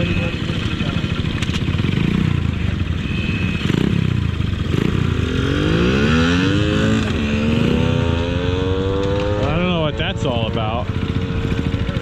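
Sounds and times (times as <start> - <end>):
mini-bike engines revving: 0.0 - 12.0.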